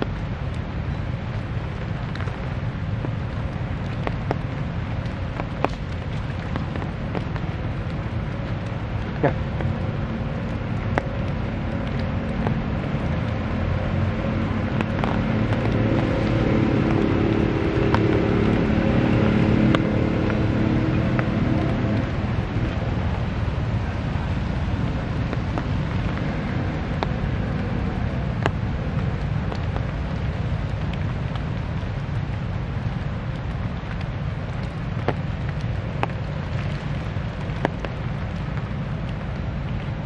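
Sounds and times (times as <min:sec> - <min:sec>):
vehicle engine rumble: 0:00.0 - 0:40.0.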